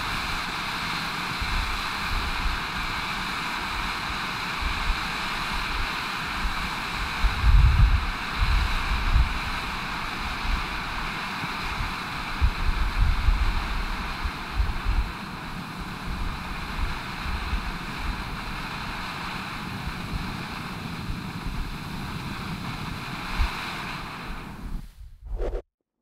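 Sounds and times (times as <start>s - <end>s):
firework fountain hissing: 0.0s - 25.0s
wind rumble on microphone: 0.0s - 25.6s.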